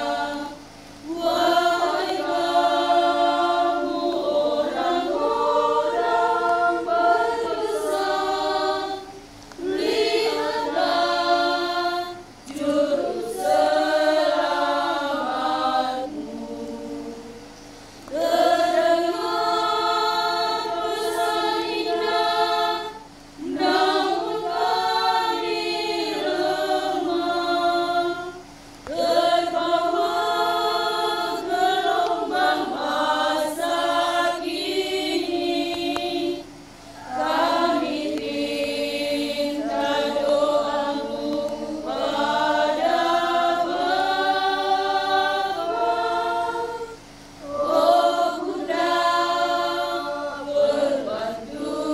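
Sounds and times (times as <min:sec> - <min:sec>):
women's choir singing: 0:00.0 - 0:51.9.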